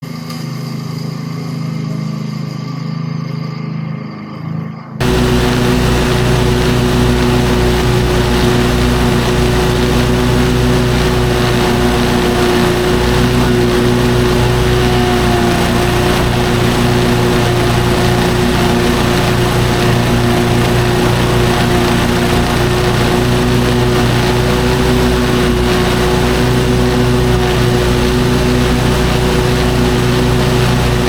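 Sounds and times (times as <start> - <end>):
lawn mower engine running: 5.0 - 31.0.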